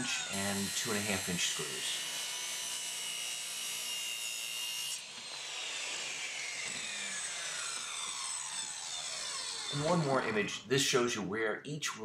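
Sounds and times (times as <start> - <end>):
circular saw whining: 0.0 - 10.7
saw blade spinning down: 0.0 - 10.7.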